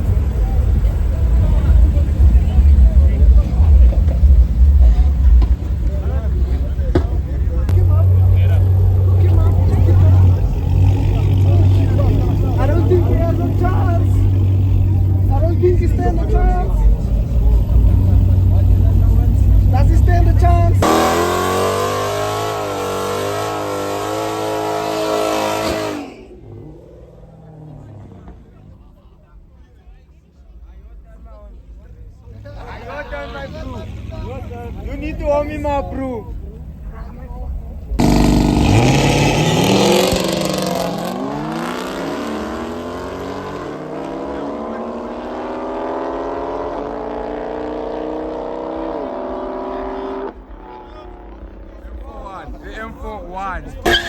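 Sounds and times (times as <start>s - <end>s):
car engine accelerating hard: 0.0s - 29.2s, 31.8s - 54.0s.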